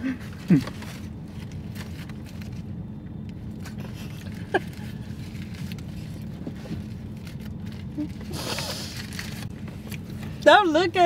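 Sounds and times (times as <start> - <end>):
low hum inside car cabin: 0.0 - 11.0.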